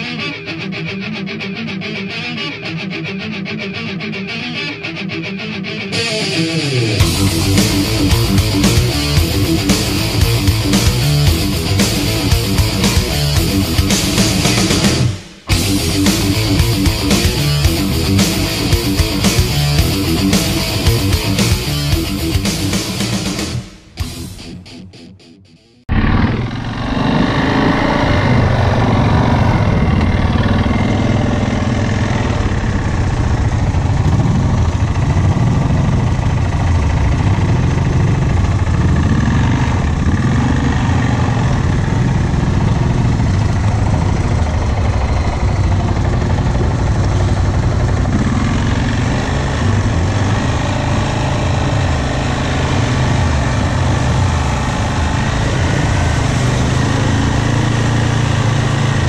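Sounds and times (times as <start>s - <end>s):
atv engine revving: 7.0s - 23.6s, 25.9s - 59.0s.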